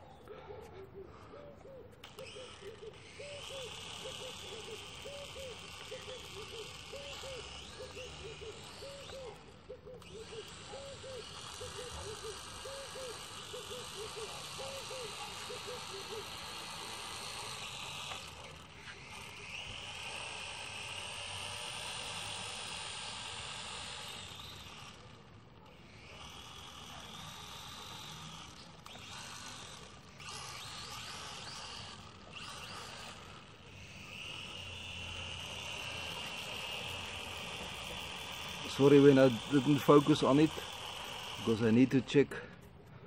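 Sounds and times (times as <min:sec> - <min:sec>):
toy drone motors whining: 0:00.0 - 0:43.0.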